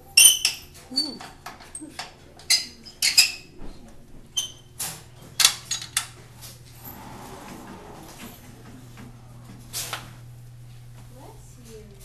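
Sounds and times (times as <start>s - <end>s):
steady low hum: 2.3s - 12.0s.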